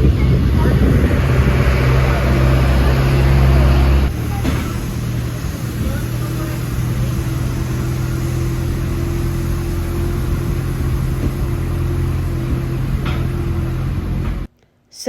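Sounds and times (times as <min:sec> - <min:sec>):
engine humming: 0:00.0 - 0:14.5.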